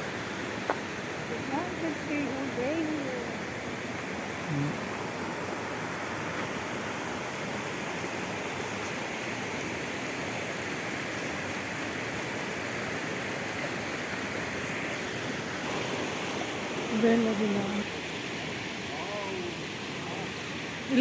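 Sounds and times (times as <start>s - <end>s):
fast-flowing water rushing: 0.0s - 21.0s.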